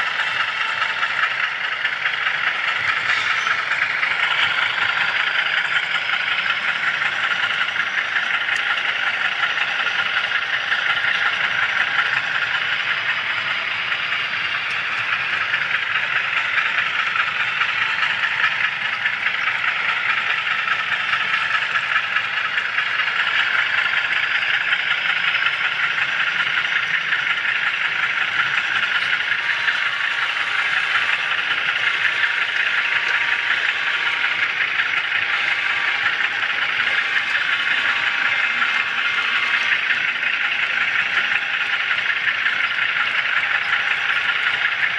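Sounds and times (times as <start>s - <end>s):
model train wheels and motor whirring: 0.0s - 44.9s.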